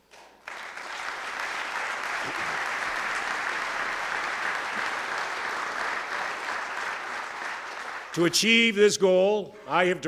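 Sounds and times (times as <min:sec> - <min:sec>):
crowd clapping: 0:00.0 - 0:08.8.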